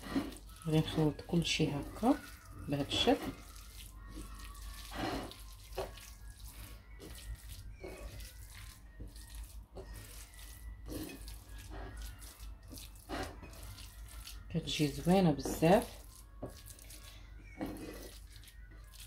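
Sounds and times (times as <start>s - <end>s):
wet squelching of kneaded paste: 0.0s - 19.0s.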